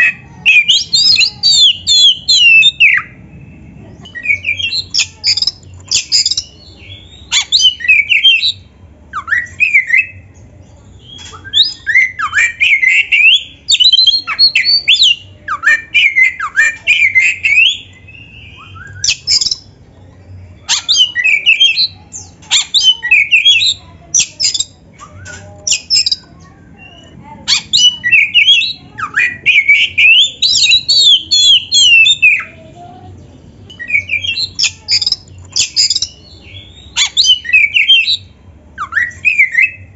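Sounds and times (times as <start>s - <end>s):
bird singing whistled notes: 0.0s - 10.2s, 11.0s - 19.7s, 20.8s - 32.6s, 33.7s - 39.9s.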